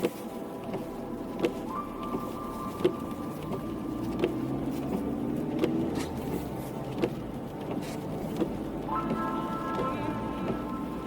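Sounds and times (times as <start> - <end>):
car mechanical hum: 0.0 - 11.0.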